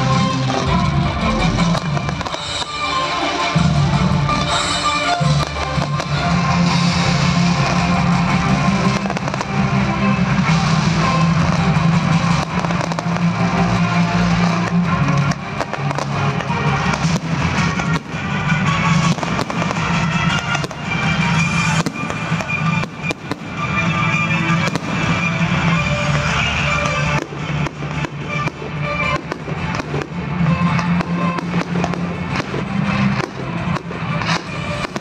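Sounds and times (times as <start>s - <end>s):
fireworks bangs: 0.0s - 35.0s
music playing: 0.0s - 35.0s.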